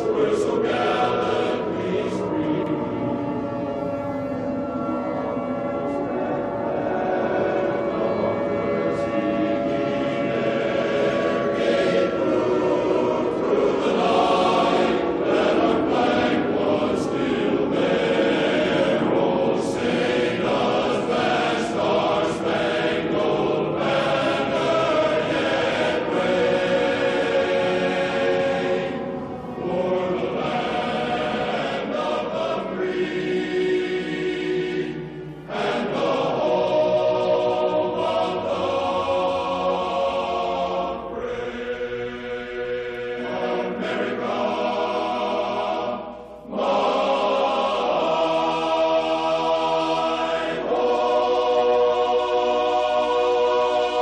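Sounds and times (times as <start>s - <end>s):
choir singing held chords: 0.0s - 54.0s.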